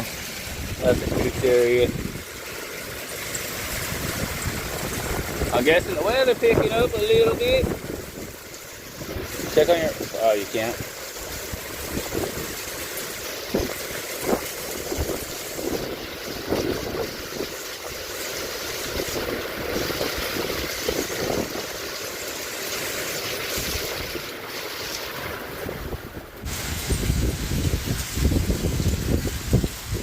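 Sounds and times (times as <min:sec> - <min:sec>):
wind and precipitation rushing: 0:00.0 - 0:22.5, 0:23.3 - 0:30.0
hail tapping: 0:00.0 - 0:30.0.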